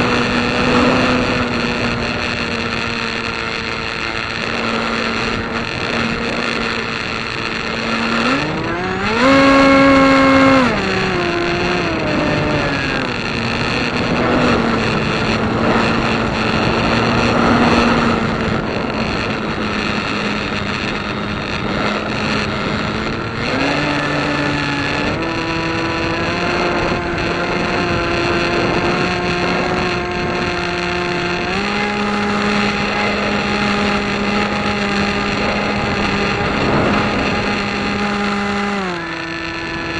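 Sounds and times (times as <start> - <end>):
piston engine revving: 0.0 - 39.9.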